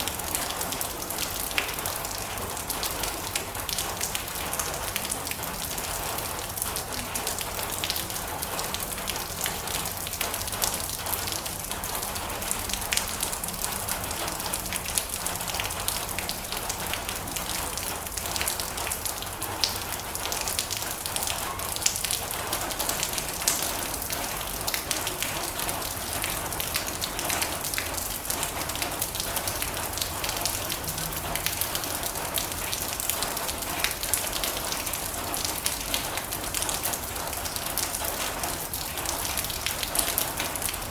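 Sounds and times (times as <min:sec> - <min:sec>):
heavy rain on a metal roof: 0:00.0 - 0:40.9.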